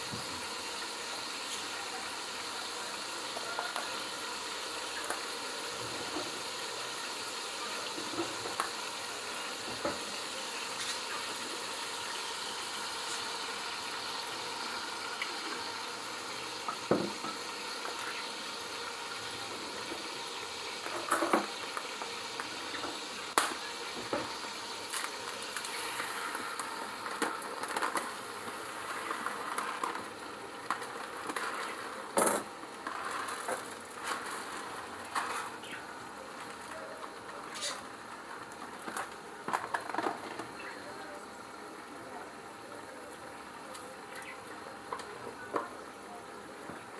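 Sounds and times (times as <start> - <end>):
rice being poured: 0.0 - 40.1
vegetables sizzling in oil: 0.0 - 46.9.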